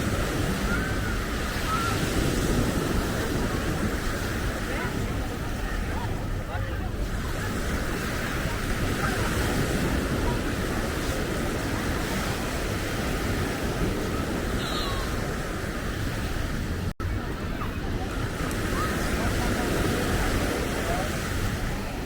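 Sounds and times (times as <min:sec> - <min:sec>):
ocean surf on beach: 0:00.0 - 0:22.0
wind on microphone: 0:00.0 - 0:22.0.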